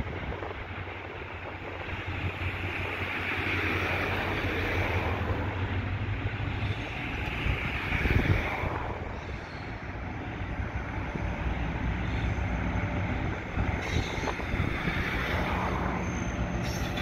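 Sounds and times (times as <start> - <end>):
diesel locomotive engine drone: 0.0 - 17.0
locomotive rumble: 0.0 - 17.0.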